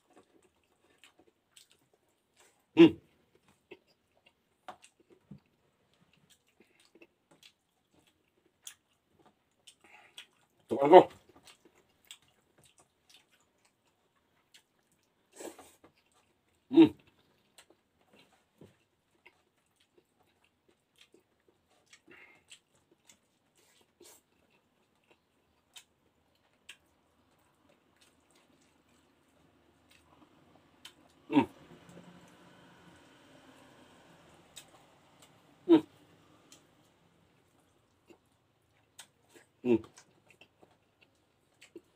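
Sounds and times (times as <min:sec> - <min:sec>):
faint chewing: 0:00.0 - 0:41.9.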